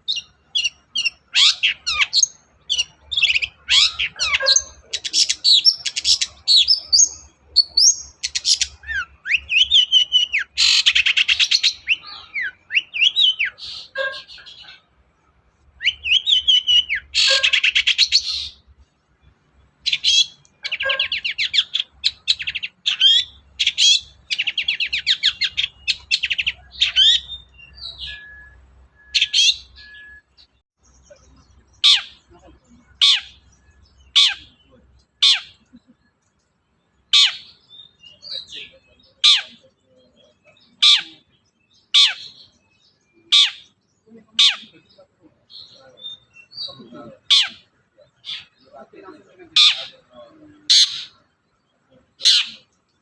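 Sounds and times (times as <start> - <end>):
bird singing chirps and trills: 0.0 - 53.0.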